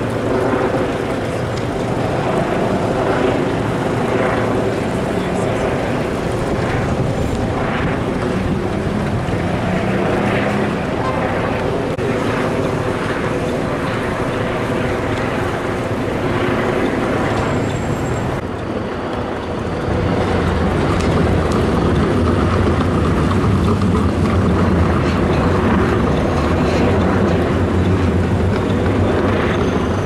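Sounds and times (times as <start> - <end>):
street traffic: 0.0 - 30.0
tram passing on rails: 0.0 - 30.0.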